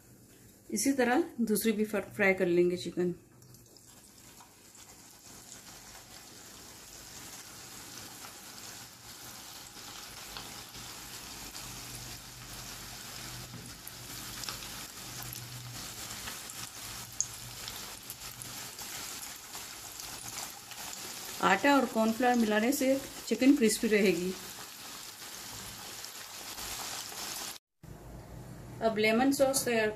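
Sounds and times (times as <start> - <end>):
chicken deep-frying in oil: 3.3 - 27.6.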